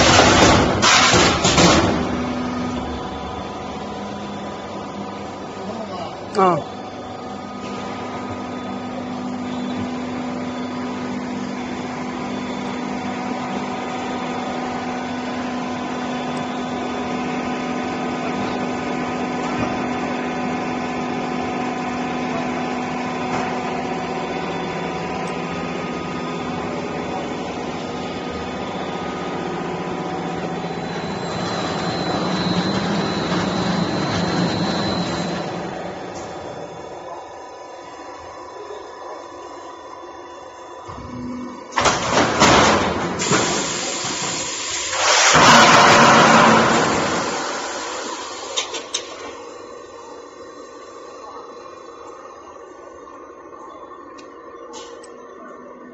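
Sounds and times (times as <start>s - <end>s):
roll-forming machine humming: 0.0s - 53.4s
high machine whine: 0.0s - 55.9s.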